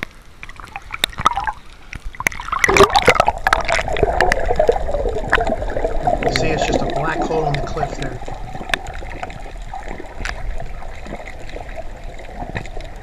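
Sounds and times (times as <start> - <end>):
underwater bubbling and crackling: 0.0 - 13.0
underwater clicks: 0.0 - 13.0.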